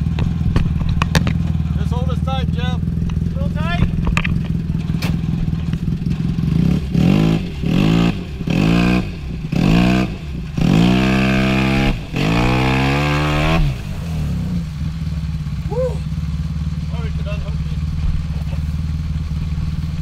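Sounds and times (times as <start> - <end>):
utility vehicle engine revving: 0.0 - 20.0.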